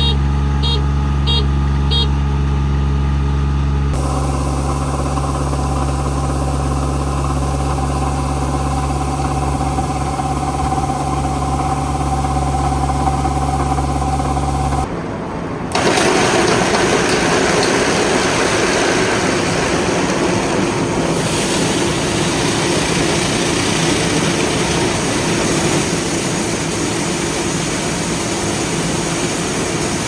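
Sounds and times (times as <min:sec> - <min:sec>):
machinery humming: 0:00.0 - 0:30.0.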